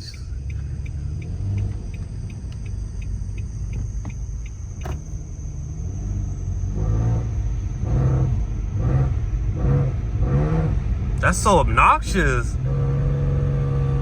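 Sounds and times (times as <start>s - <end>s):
car exhaust rumbling: 0.0s - 14.0s.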